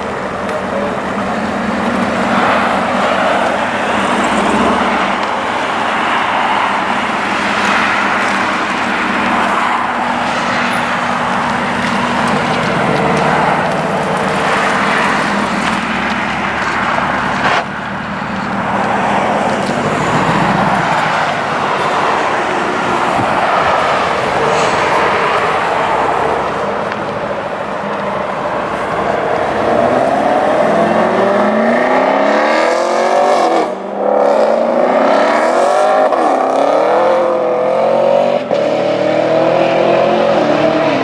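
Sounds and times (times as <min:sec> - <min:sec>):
car engines running: 0:00.0 - 0:41.0.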